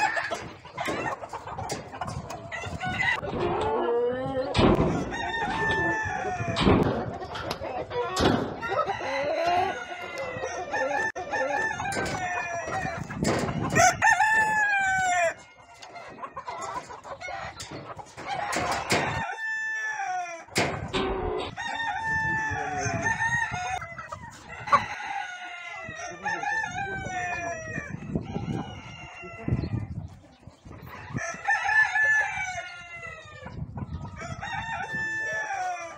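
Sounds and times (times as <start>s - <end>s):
roosters crowing: 0.0s - 30.0s, 30.7s - 35.9s
chickens clucking: 0.0s - 35.9s.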